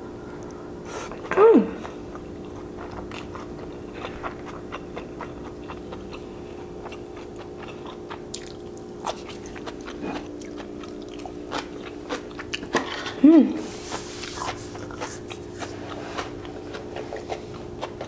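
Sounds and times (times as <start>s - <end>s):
steady hum: 0.0s - 18.0s
noodles being chewed: 0.4s - 12.9s, 13.6s - 18.0s.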